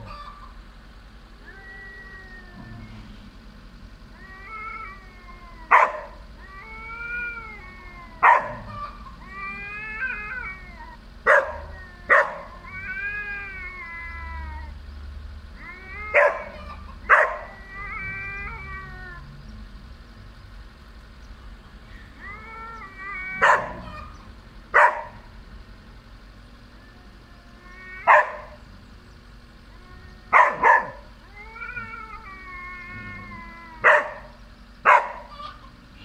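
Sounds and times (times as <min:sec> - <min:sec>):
cats yowling: 0:00.0 - 0:14.9, 0:15.5 - 0:19.6, 0:21.9 - 0:25.4, 0:26.4 - 0:35.9.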